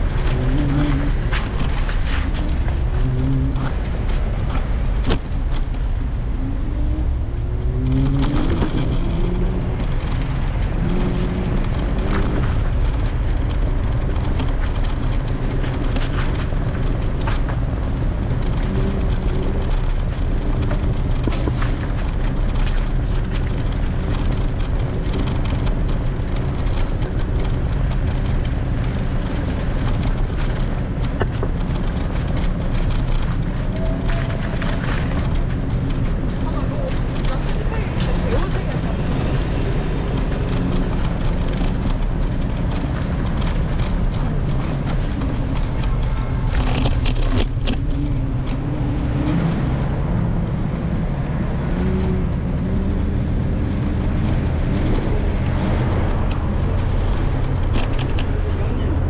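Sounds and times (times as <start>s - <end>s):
street traffic: 0.0s - 59.0s
vehicle engine revving: 0.0s - 59.0s
wind buffeting microphone: 0.0s - 59.0s.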